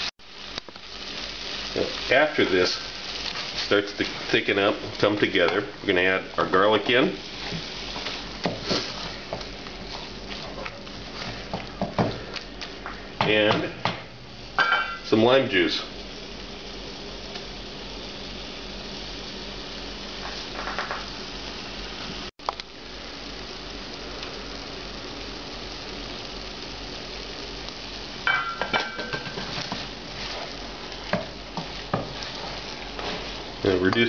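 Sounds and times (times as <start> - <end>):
sauce sizzling and bubbling: 0.0 - 34.0.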